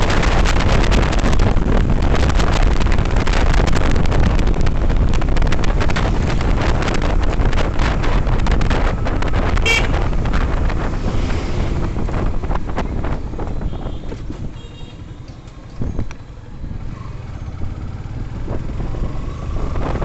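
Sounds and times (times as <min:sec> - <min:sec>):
road and engine rumble: 0:00.0 - 0:20.0
wind buffeting microphone: 0:00.0 - 0:20.0.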